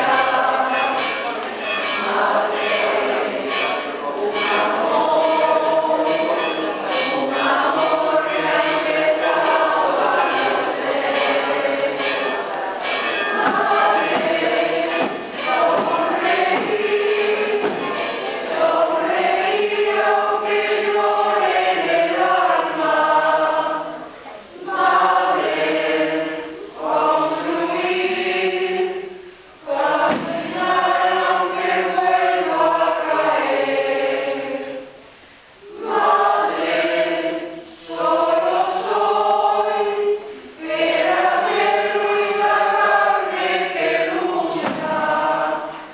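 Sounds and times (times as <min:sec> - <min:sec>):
choir singing: 0:00.0 - 0:35.0, 0:35.6 - 0:45.9.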